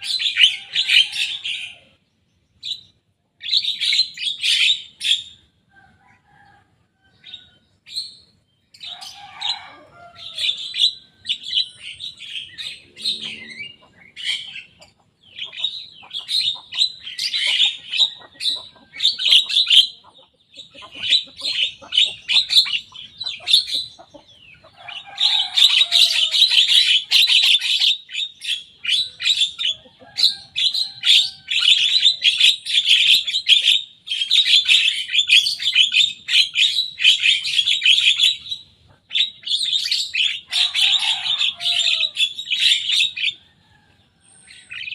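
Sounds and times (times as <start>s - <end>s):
bird harsh chattering song: 0.0s - 5.4s, 7.2s - 43.4s, 44.2s - 44.9s.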